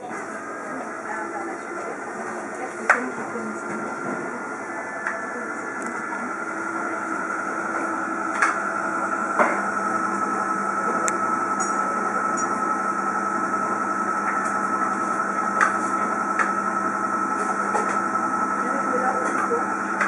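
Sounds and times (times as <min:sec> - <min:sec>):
machine hum with whine: 0:00.0 - 0:20.0.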